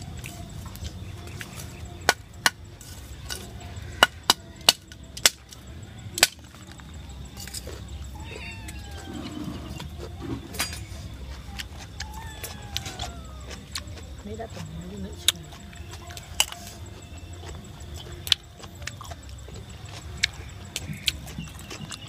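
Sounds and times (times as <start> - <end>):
eating clicks and crunches: 0.0 - 22.0.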